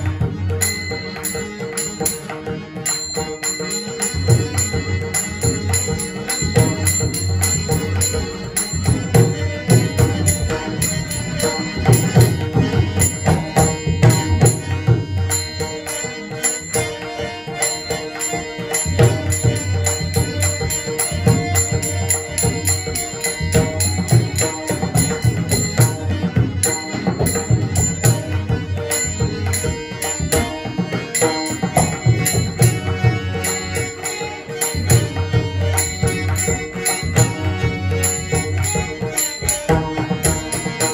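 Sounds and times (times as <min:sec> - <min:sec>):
held tones: 0:00.0 - 0:40.9
small hand cymbals striking: 0:00.0 - 0:40.9.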